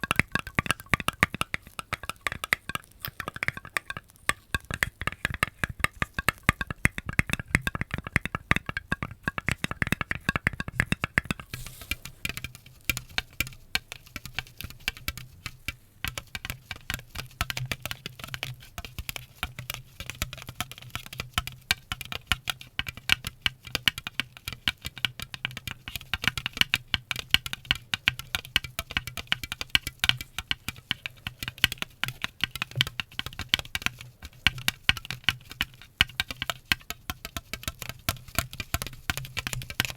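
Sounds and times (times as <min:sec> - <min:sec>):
rapid clicking and tapping: 0:00.0 - 0:39.9.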